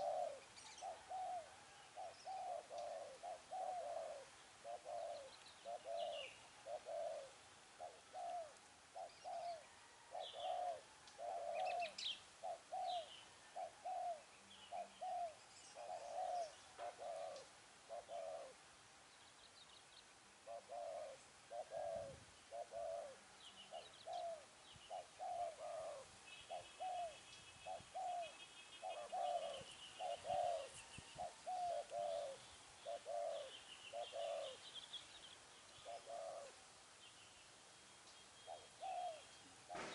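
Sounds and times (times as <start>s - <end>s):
small birds chirping: 0.0s - 9.6s, 10.2s - 39.9s
dove cooing: 0.0s - 18.6s, 20.4s - 34.7s, 35.8s - 36.6s, 38.5s - 39.9s.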